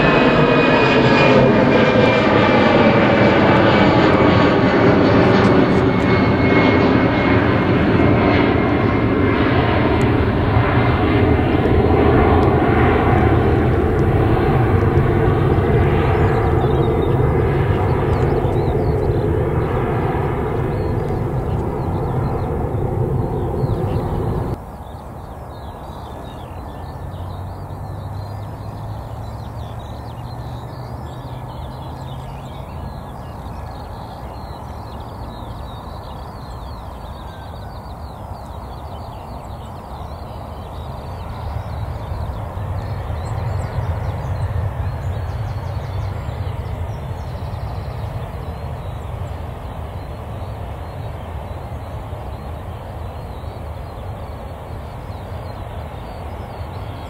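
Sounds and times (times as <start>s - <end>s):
distant jet engines rumbling: 0.0s - 57.0s
faint birds calling: 0.0s - 57.0s.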